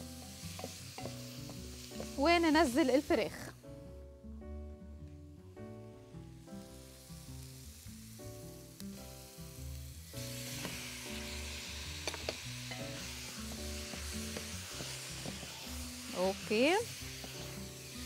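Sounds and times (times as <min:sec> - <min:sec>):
chicken sizzling in hot oil: 0:00.0 - 0:03.6, 0:06.0 - 0:18.0
background music: 0:00.0 - 0:18.0.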